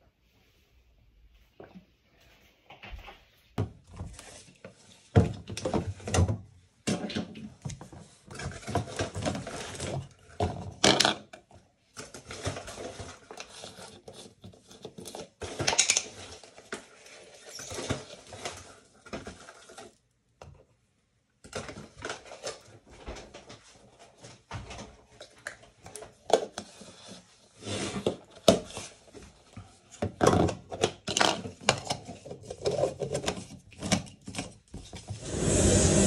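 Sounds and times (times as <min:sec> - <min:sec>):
plastic clattering and rustling: 0:02.7 - 0:20.7, 0:21.4 - 0:35.2.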